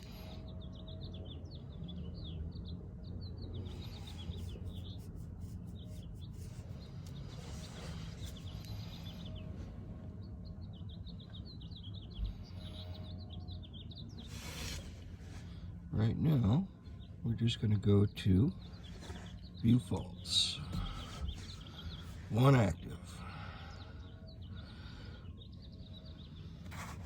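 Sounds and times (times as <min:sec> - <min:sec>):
small birds chirping: 0:00.0 - 0:27.0
steady low hum: 0:00.0 - 0:27.0.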